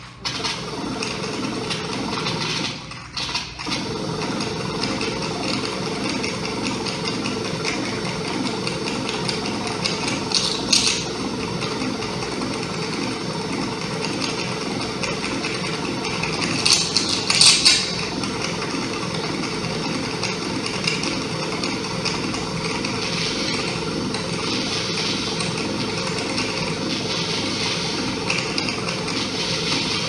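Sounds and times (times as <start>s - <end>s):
rattling machine-like drone: 3.7s - 30.0s.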